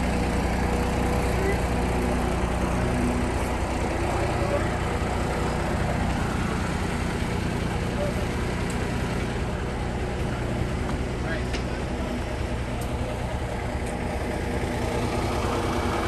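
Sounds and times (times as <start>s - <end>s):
mini excavator working: 0.0s - 16.0s
truck diesel engine idling: 0.0s - 16.0s.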